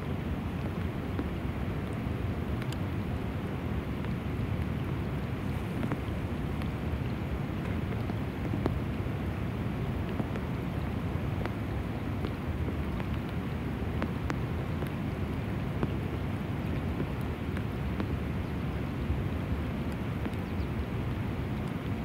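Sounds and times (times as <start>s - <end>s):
steady rain on river: 0.0s - 22.0s
sharp taps of raindrops: 0.5s - 3.3s, 3.9s - 22.0s.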